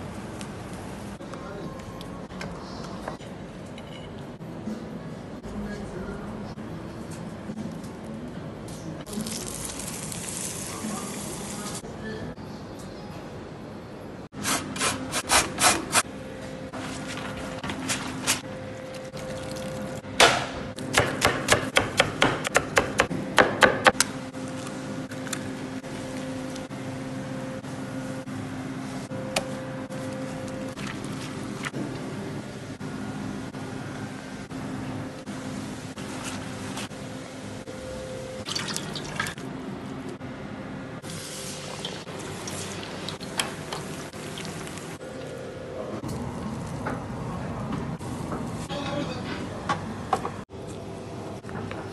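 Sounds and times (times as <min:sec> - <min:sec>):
steady kitchen hum: 0:00.0 - 0:51.9.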